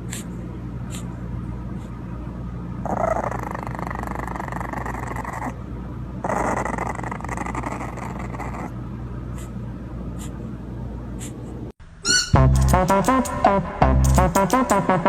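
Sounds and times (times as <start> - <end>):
background hum and hiss: 0.0 - 12.1
puppy sounds: 0.0 - 12.4.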